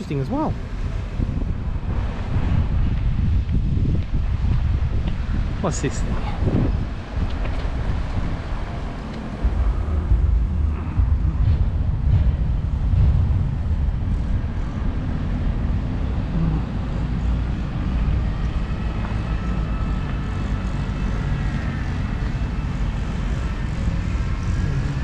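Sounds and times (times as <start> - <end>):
faint engine drone: 0.0 - 25.0
wind rumble on microphone: 0.0 - 25.0.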